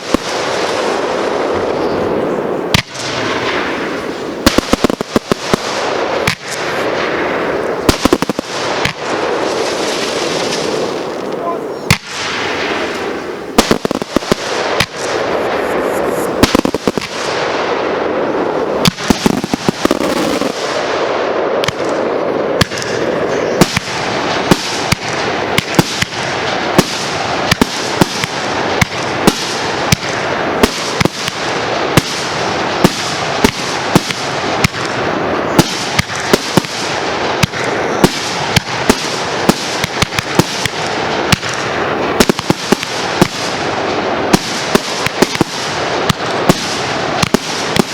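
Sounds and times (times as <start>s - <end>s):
fireworks bangs: 0.0s - 47.9s.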